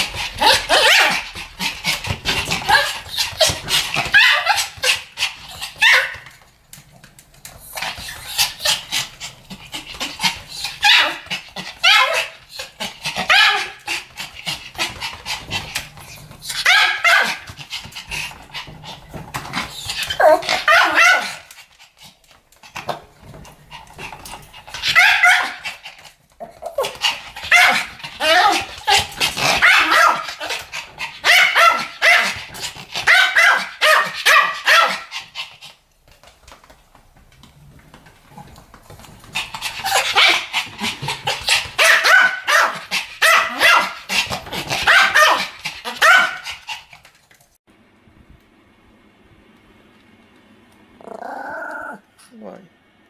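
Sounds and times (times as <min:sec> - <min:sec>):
small dogs yapping: 0:00.0 - 0:06.4, 0:07.6 - 0:21.9, 0:22.6 - 0:35.6, 0:39.4 - 0:47.0, 0:51.0 - 0:52.1.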